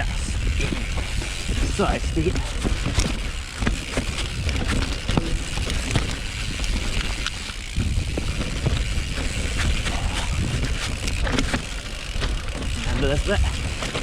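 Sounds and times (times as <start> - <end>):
bike knocks and rattles: 0.0 - 14.0
bike tyres rumbling over roots: 0.0 - 14.0.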